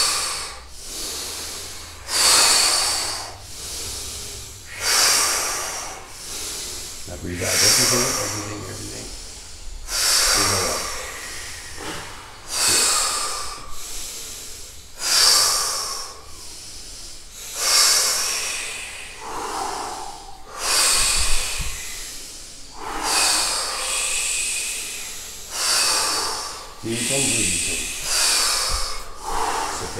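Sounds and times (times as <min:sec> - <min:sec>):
people breathing deeply: 0:00.0 - 0:29.9.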